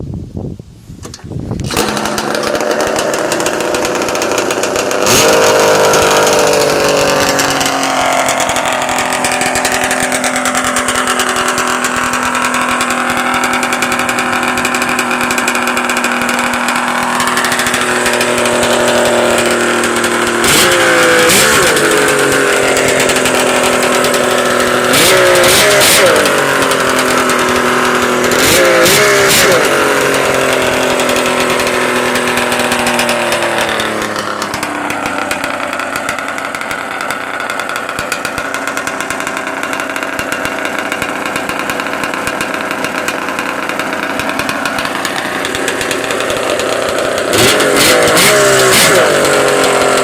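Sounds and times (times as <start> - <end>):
snowmobile engine idling: 1.6 - 50.0.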